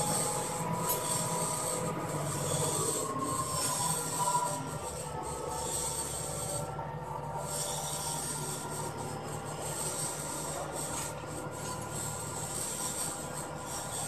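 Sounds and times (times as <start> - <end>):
construction machinery drone: 0.0 - 14.0.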